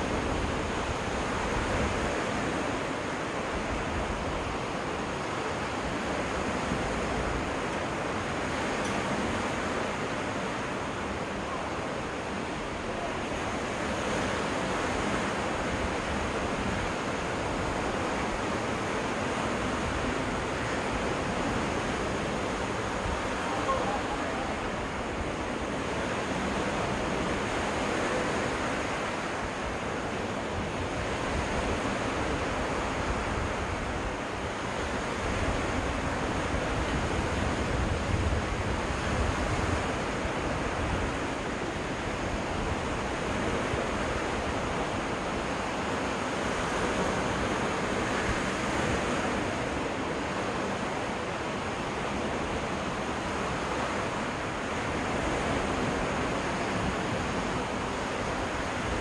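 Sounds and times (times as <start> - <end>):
waves breaking on beach: 0.0 - 59.0
wind rumbling on microphone: 0.0 - 59.0.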